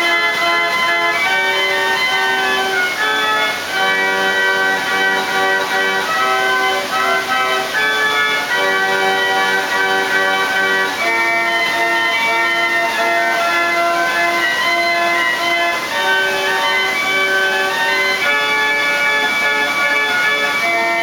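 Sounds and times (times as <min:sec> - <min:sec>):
steady hiss: 0:00.0 - 0:21.0
water organ playing chords: 0:00.0 - 0:21.0.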